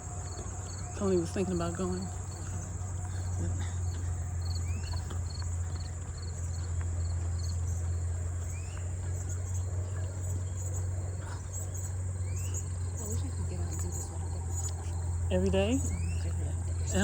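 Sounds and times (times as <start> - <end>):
insect chirps: 0.0 - 17.0
insects high-pitched drone: 0.0 - 17.0.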